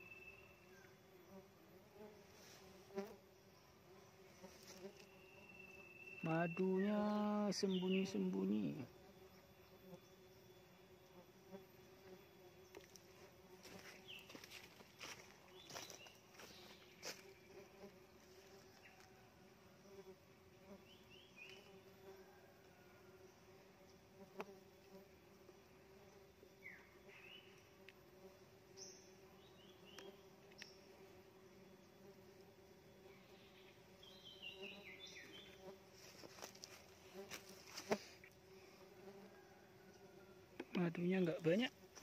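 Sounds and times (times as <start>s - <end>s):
bees buzzing: 0.0s - 39.7s.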